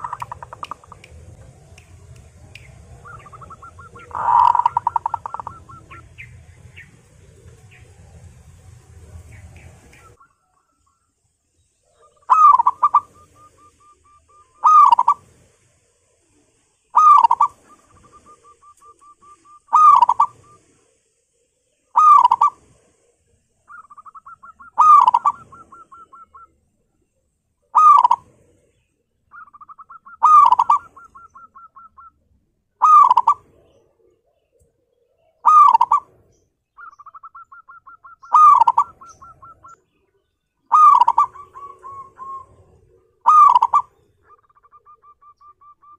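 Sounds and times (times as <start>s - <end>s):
dove cooing: 0.0s - 10.8s, 11.9s - 15.5s, 16.9s - 20.8s, 21.9s - 23.1s, 23.7s - 26.6s, 27.6s - 32.2s, 32.8s - 36.2s, 36.8s - 40.0s, 40.6s - 45.9s.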